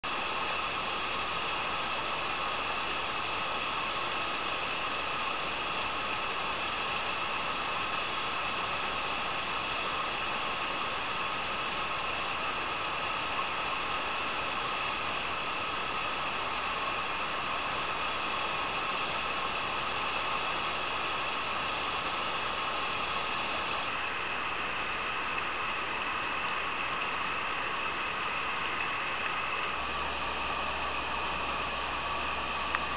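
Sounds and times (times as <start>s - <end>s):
water rushing over rocks: 0.0s - 32.9s.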